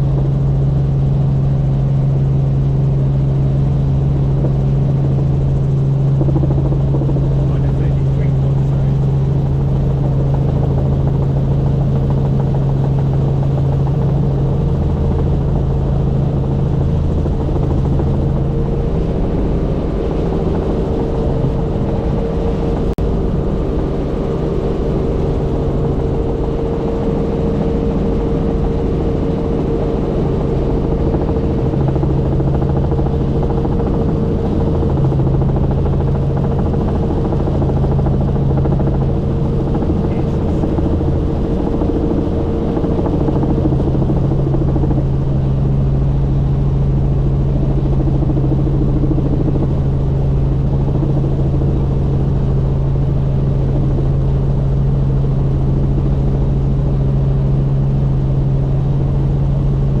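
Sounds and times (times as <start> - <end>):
helicopter rotor drone: 0.0 - 60.0.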